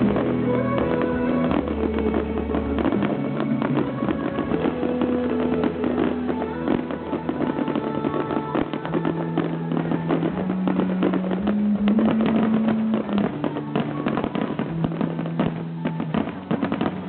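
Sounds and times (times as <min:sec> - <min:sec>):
fireworks bursts and crackles: 0:00.0 - 0:17.0
song over loudspeakers: 0:00.0 - 0:17.0.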